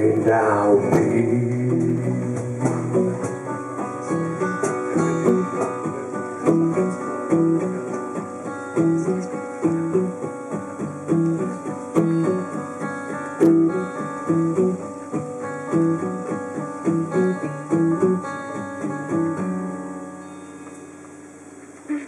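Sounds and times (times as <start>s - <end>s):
acoustic guitars playing: 0.0s - 22.0s.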